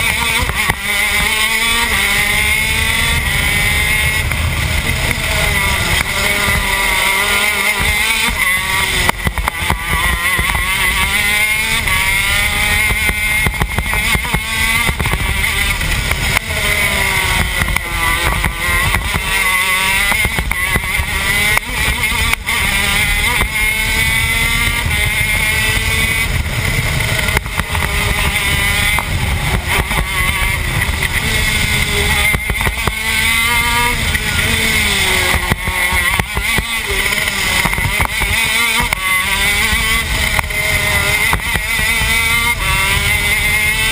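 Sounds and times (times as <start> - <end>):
kart engine revving: 0.0 - 43.9.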